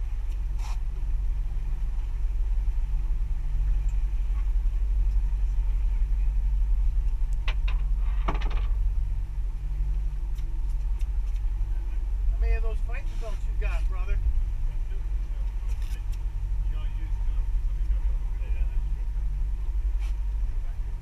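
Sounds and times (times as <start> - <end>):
boat engine rumbling: 0.0 - 21.0.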